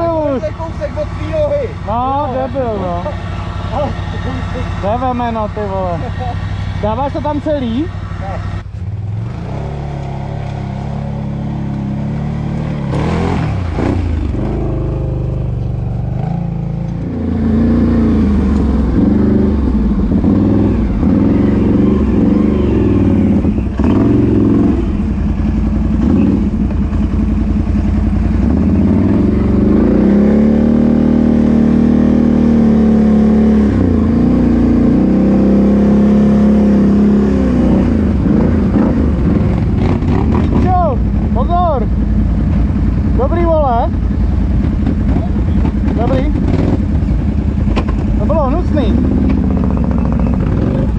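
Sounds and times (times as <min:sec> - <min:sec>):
atv engine revving: 0:00.0 - 0:50.9.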